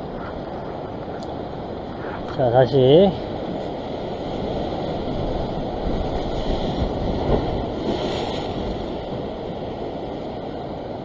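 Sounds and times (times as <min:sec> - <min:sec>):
surf breaking over rocks: 0:00.0 - 0:11.0
wind rumbling on microphone: 0:00.0 - 0:11.0.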